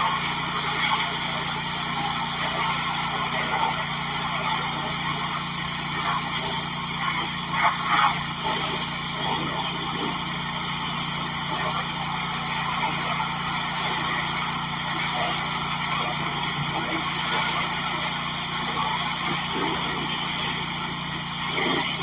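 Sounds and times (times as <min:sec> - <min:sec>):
pressure washer engine running: 0:00.0 - 0:22.0
water spray burst: 0:00.1 - 0:22.0.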